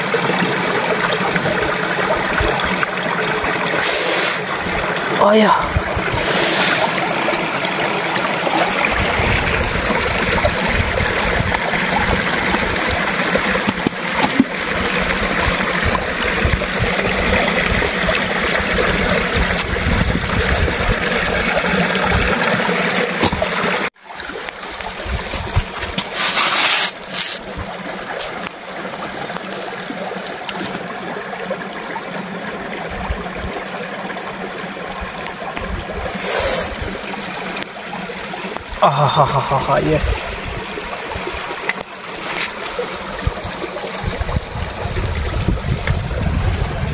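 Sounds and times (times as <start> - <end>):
stream water over rocks: 0.0 - 46.9.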